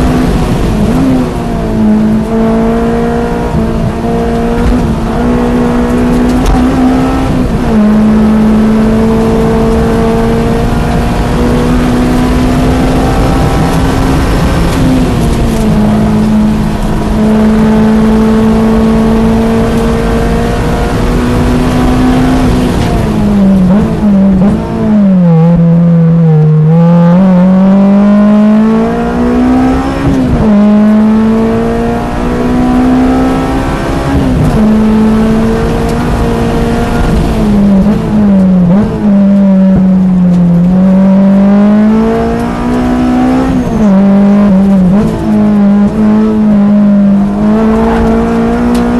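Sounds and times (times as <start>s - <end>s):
race car engine at high revs: 0.0s - 48.9s.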